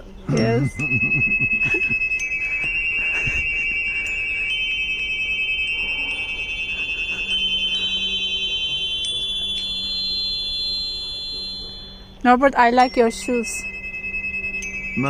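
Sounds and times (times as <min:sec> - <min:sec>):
faint low hum: 0:00.0 - 0:15.0
high sustained ringing tones: 0:00.0 - 0:15.0.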